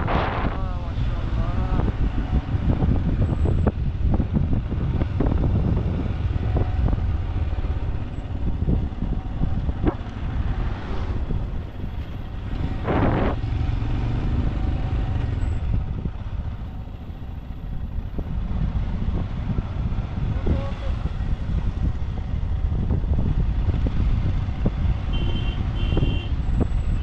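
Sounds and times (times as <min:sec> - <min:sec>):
motorcycle engine rumble: 0:00.0 - 0:27.0
wind noise: 0:00.0 - 0:27.0.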